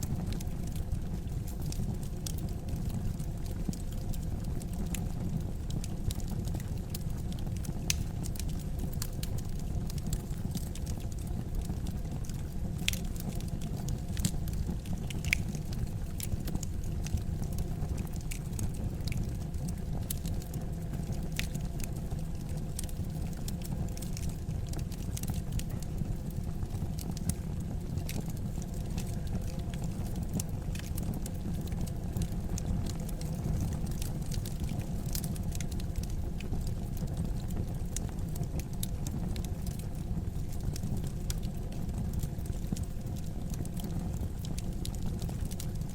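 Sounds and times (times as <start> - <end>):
fire crackling: 0.0 - 45.9.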